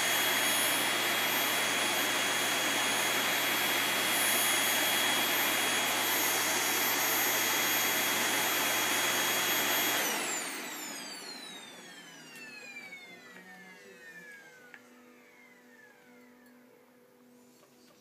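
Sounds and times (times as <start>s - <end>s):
vacuum motor winding down: 0.0s - 16.7s
vacuum cleaner running: 0.0s - 18.0s.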